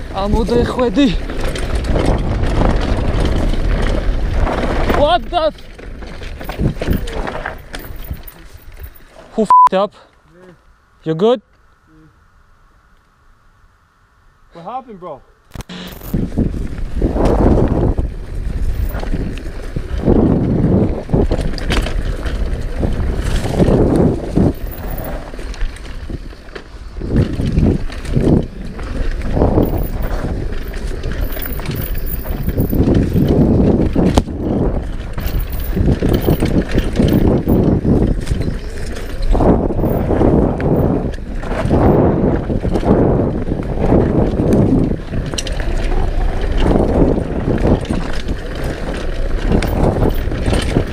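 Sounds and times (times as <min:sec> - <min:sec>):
bike rattling: 0:00.0 - 0:09.4, 0:15.7 - 0:50.9
wind rumble on microphone: 0:00.0 - 0:09.4, 0:15.5 - 0:50.9
tyres on dirt: 0:00.0 - 0:09.6, 0:15.5 - 0:50.9.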